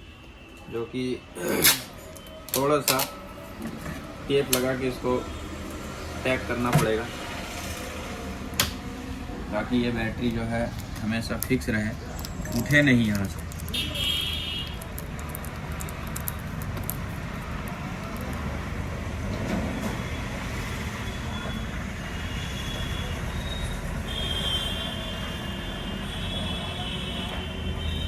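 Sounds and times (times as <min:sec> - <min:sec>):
road traffic hum: 0:00.0 - 0:28.0.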